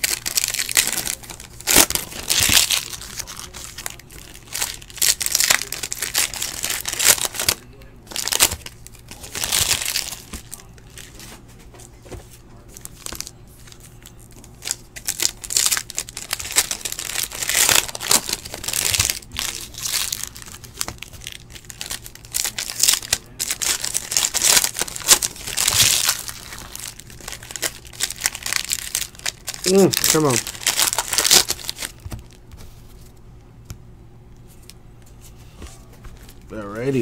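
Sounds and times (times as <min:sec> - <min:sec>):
foil wrapper crinkling: 0:00.0 - 0:11.4, 0:12.0 - 0:33.1
cards rustling: 0:00.0 - 0:33.2.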